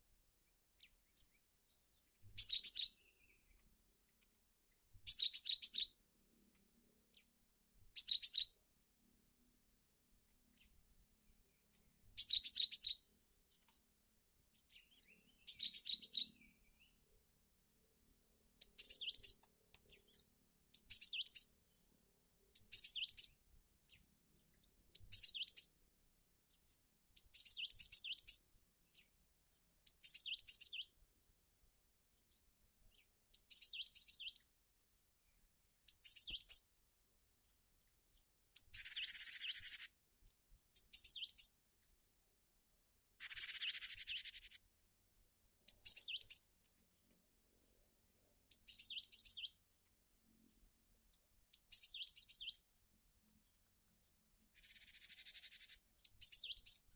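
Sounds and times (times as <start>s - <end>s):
bird chirping: 0.4s - 8.6s, 9.2s - 17.8s, 18.6s - 25.8s, 26.5s - 42.2s, 43.2s - 44.8s, 45.6s - 56.9s.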